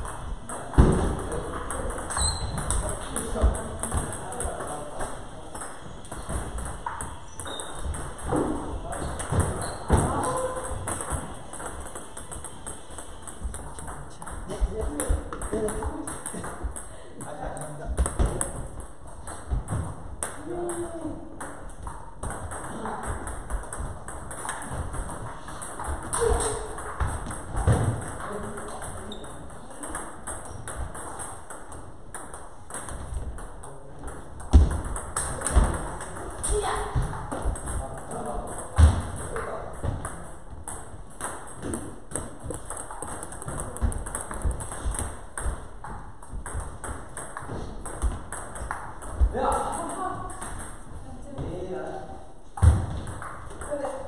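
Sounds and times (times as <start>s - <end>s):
table tennis balls clicking: 0.0s - 50.9s, 53.0s - 54.0s.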